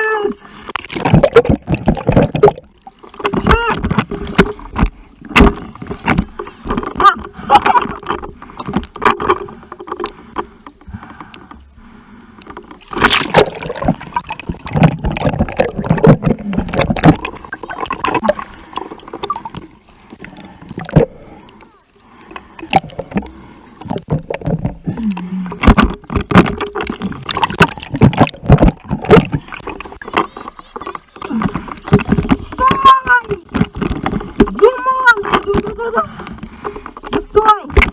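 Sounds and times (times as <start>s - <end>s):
sea water splashing and sloshing: 0.0s - 37.9s.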